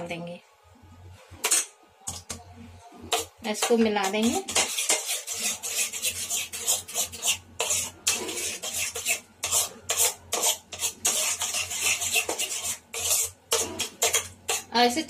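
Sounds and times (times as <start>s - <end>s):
spoon scraping and stirring in pot: 1.3s - 15.0s.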